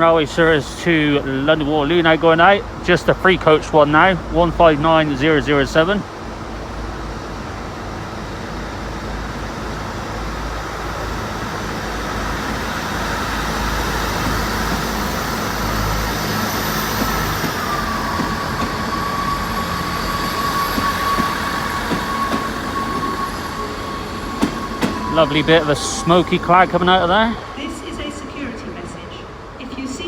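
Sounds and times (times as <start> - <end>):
diesel train engines running: 0.0 - 30.0
steady high whine: 4.2 - 30.0.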